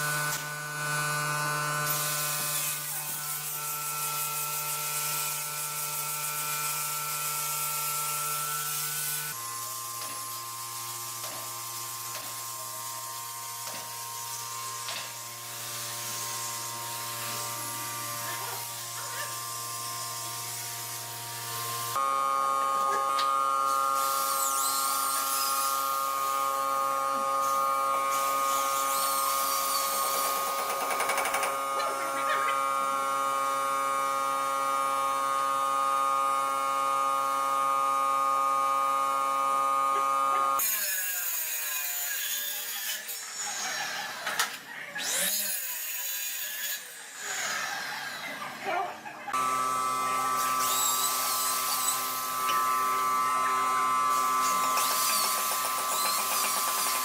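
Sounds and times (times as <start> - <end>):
power tool whining: 0.0 - 46.1, 49.3 - 57.0.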